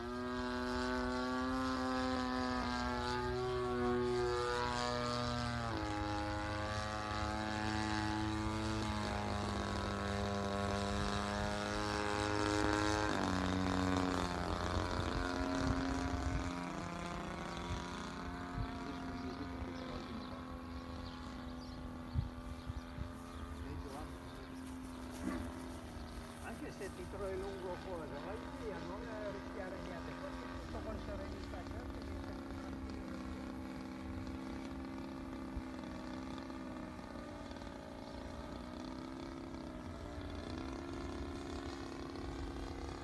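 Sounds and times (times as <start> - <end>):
propeller plane droning overhead: 0.0 - 43.0.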